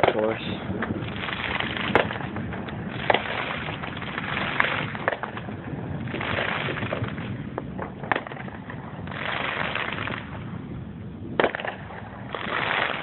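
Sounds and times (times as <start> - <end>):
distant fireworks popping: 0.0 - 13.0
rolling thunder: 0.6 - 13.0.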